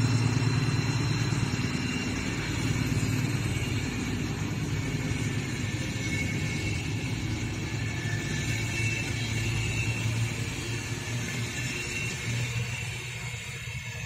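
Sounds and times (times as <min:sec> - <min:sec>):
distant locomotive engine drone: 0:00.0 - 0:14.0
train coaches rolling past: 0:00.0 - 0:14.0.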